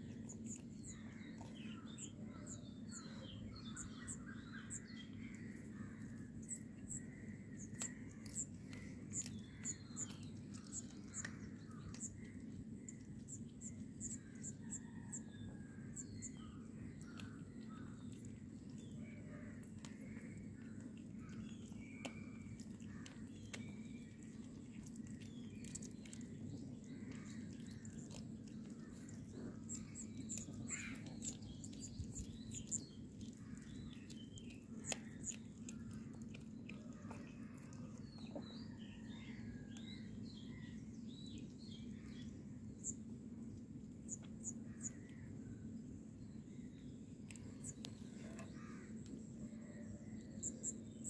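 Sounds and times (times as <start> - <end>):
steady low hum: 0.0 - 51.0
small bird chirps: 0.1 - 19.0, 21.2 - 43.0, 44.0 - 45.3, 46.3 - 51.0.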